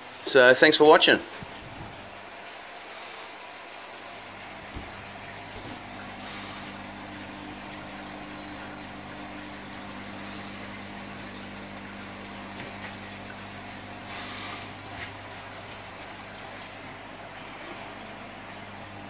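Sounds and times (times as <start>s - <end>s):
filter and pump motor hum: 0.0s - 19.0s
water bubbling and trickling: 1.3s - 19.0s.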